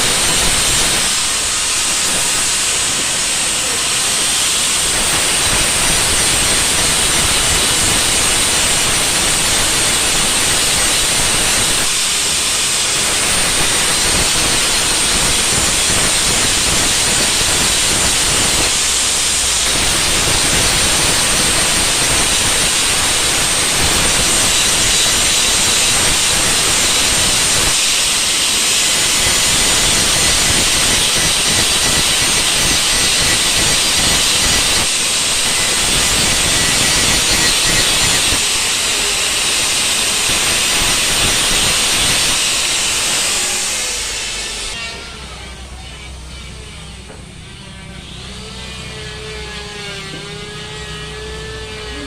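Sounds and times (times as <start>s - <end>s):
steady loud hiss: 0.0s - 52.0s.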